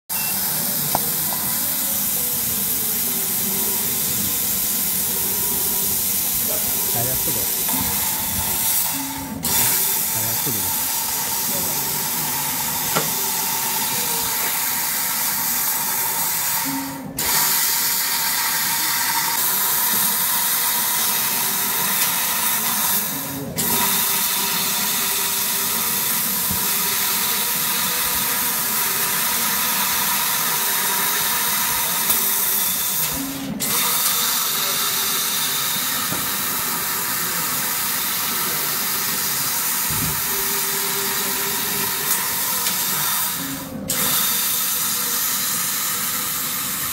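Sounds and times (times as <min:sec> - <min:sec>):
laser cutter hissing: 0:00.1 - 0:46.9.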